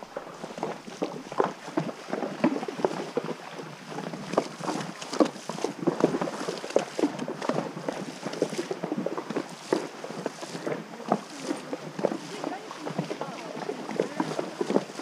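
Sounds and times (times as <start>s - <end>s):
horse hooves splashing in water: 0.0s - 15.0s.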